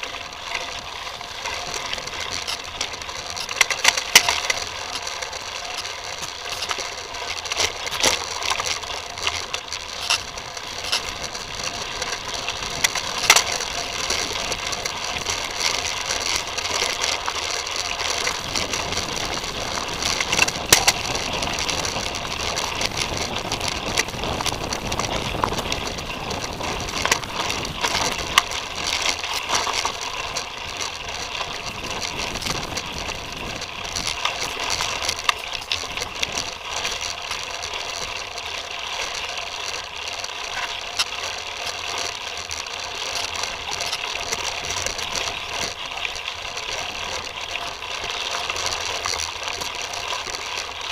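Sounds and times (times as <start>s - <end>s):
bike parts rattling: 0.0s - 50.9s.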